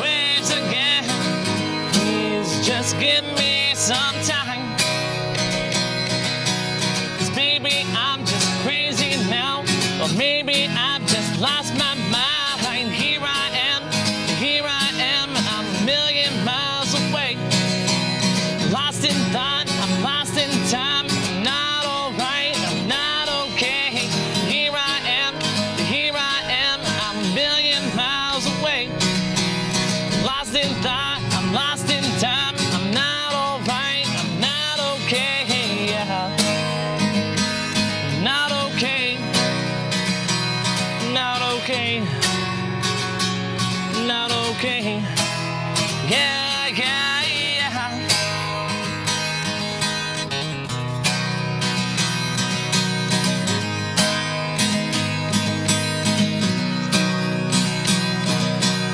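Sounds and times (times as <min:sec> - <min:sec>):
man singing: 0:00.0 - 0:50.4
strummed acoustic guitar: 0:00.0 - 0:58.9.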